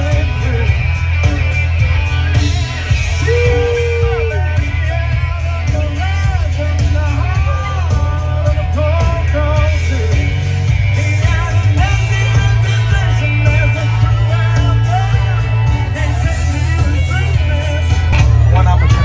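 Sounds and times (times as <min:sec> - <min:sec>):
electric guitar: 0:00.0 - 0:19.0
heavy bass: 0:00.0 - 0:19.0
person singing: 0:00.0 - 0:19.0.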